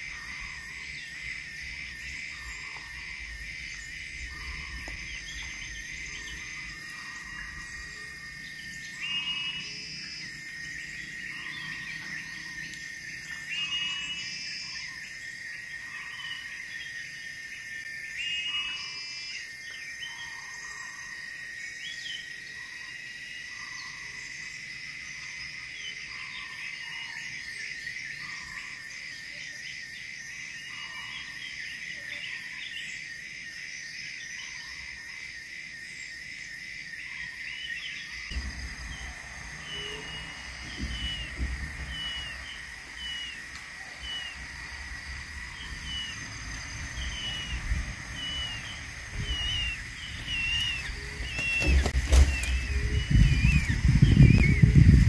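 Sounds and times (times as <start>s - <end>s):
high-pitched insect drone: 0.0s - 55.0s
short loud insect calls: 0.0s - 55.0s
soft repeating insect call: 0.0s - 55.0s.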